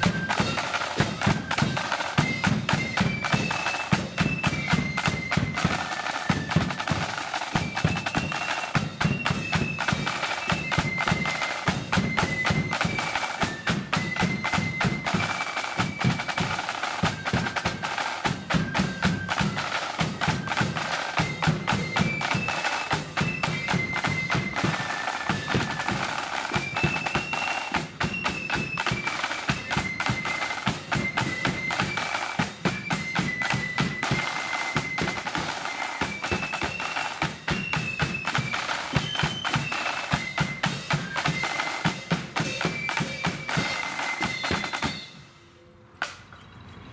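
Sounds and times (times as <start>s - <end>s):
side drum rolls: 0.0s - 45.4s
flutes playing melody: 0.0s - 46.0s.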